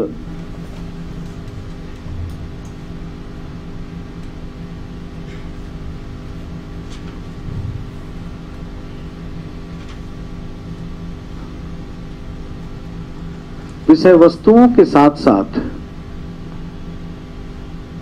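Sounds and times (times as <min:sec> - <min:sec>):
room and microphone hum: 0:00.0 - 0:18.0.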